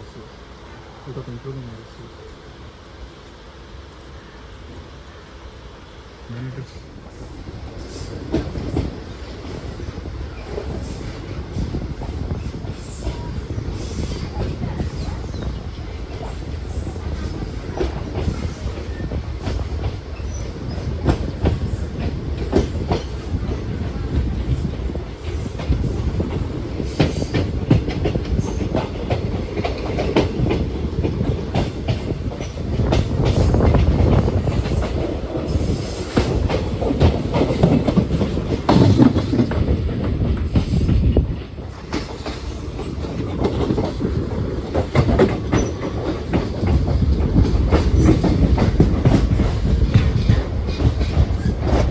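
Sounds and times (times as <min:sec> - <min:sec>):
train rumbling on track: 0:00.0 - 0:51.9
wheels clicking over rail joints: 0:07.8 - 0:51.9.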